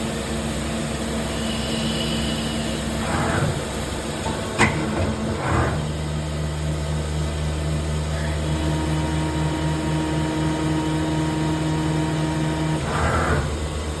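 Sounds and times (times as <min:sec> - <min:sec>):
lathe machine hum: 0:00.3 - 0:14.0.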